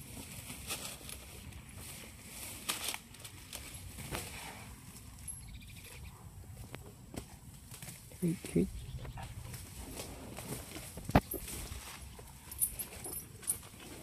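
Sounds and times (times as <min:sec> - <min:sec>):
leaves rustling: 0:00.0 - 0:05.3, 0:06.4 - 0:14.0.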